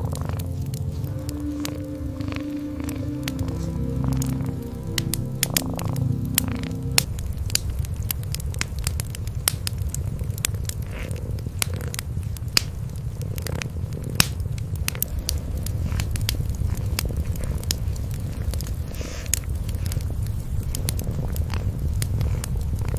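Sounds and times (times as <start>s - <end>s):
cat purring: 0.0s - 8.1s, 9.4s - 22.9s
wood fire crackling and popping: 0.0s - 22.9s.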